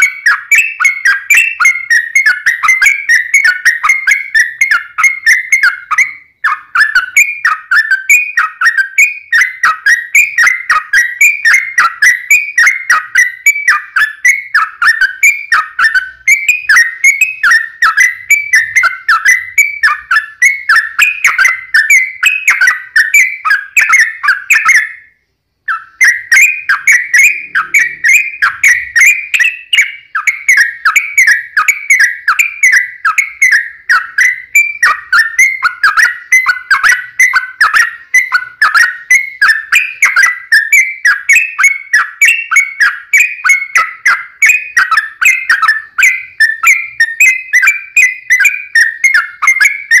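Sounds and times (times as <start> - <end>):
bird whistled chirps: 0.0 - 50.0.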